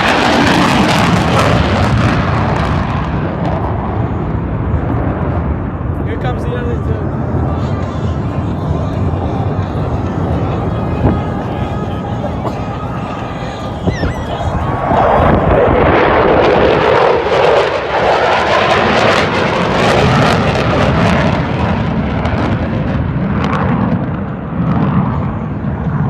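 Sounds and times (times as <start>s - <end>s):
fighter jets passing overhead: 0.0s - 26.0s.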